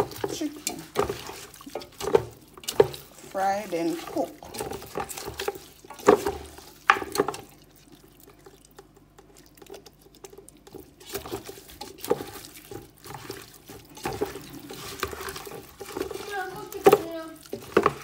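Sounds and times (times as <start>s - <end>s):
wet squelches of raw chicken: 0.0s - 18.0s.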